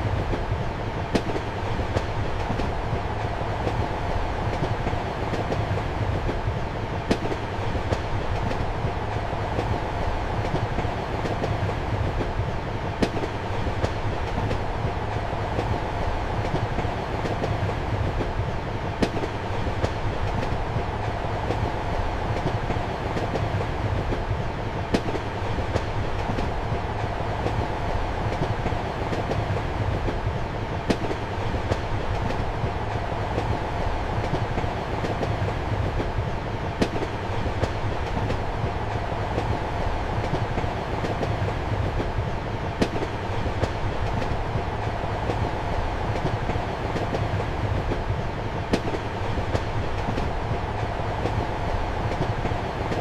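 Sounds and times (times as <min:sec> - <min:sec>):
train rumble inside compartment: 0:00.0 - 0:53.0.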